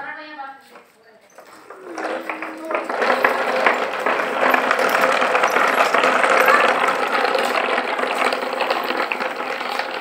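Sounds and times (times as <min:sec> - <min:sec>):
toy wheels rattling over concrete: 0:00.8 - 0:10.0.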